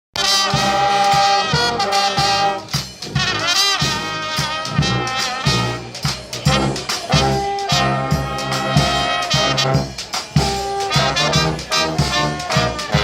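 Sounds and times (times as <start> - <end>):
brass band playing: 0.2 - 13.0.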